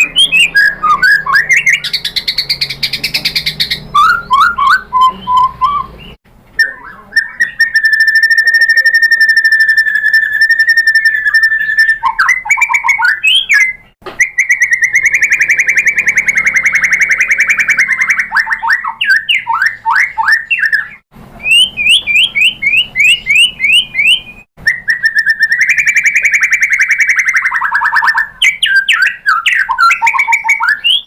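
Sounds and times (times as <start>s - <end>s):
bird singing whistles and trills: 0.0s - 31.0s.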